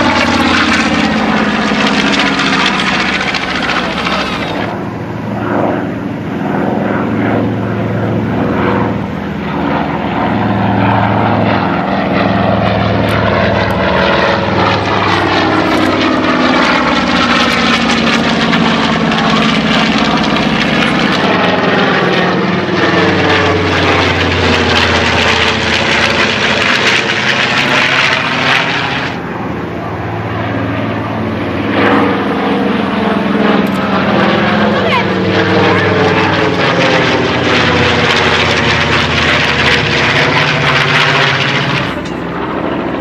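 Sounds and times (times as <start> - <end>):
propeller aircraft droning past: 0.0 - 43.0.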